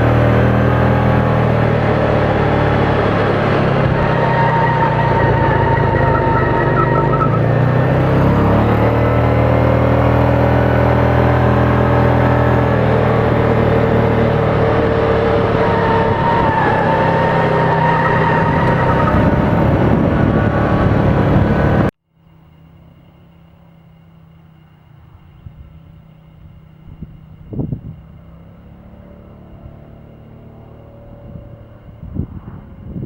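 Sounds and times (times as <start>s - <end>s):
petrol engine running: 0.0s - 33.0s.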